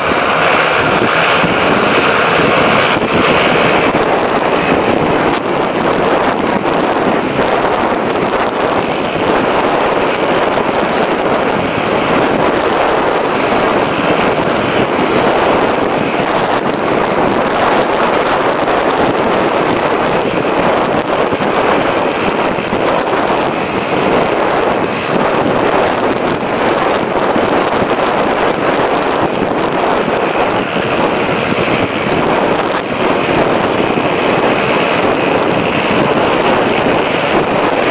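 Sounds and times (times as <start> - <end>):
road noise: 0.0 - 37.9
wind rushing: 0.0 - 37.9.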